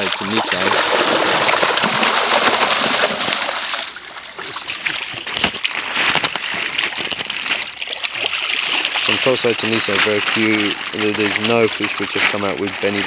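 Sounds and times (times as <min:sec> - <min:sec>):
pond water splashing and sloshing: 0:00.0 - 0:13.0.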